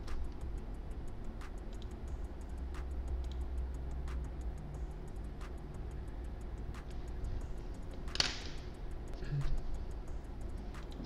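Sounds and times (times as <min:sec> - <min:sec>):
faint ticking: 0:00.0 - 0:11.0
low steady hum: 0:00.0 - 0:11.0.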